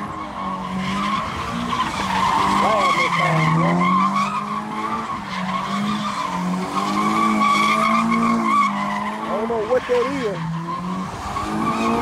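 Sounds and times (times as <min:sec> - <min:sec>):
car engine revving: 0:00.0 - 0:12.0
tyres squealing: 0:00.2 - 0:12.0.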